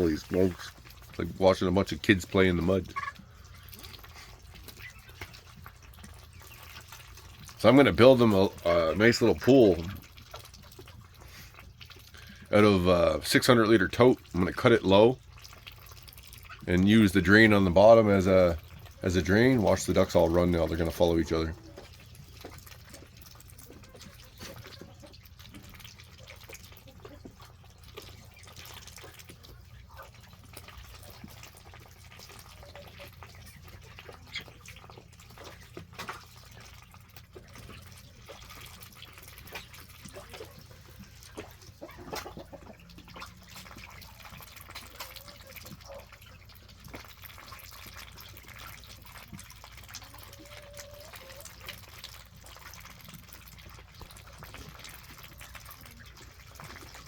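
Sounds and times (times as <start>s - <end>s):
ducks dabbling in water: 0.0s - 57.0s.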